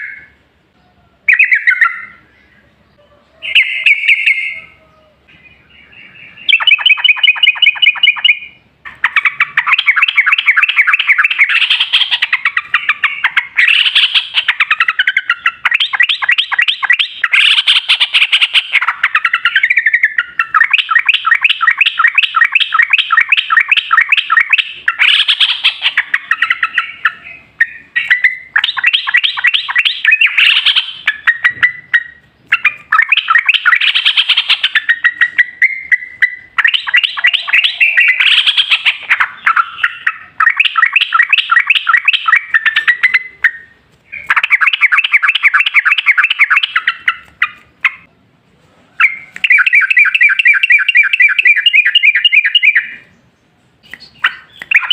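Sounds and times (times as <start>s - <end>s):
bird singing rapid repeated notes: 0.0s - 48.2s, 49.0s - 54.9s.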